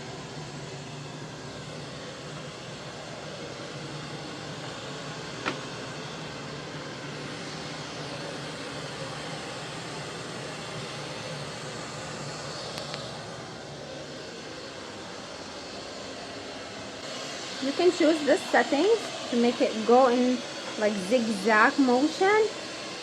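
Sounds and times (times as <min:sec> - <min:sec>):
robot vacuum whirring: 0:00.9 - 0:23.0.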